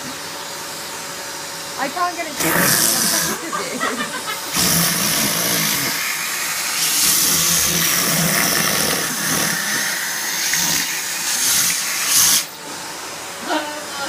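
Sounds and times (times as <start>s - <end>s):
vacuum cleaner motor running: 0.0s - 14.0s.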